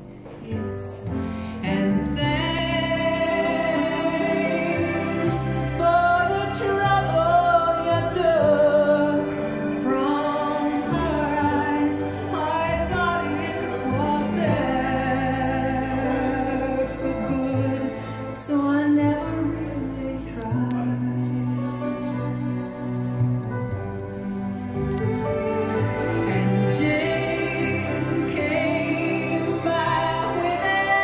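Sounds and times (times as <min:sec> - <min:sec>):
slow song over loudspeakers: 0:00.0 - 0:31.0.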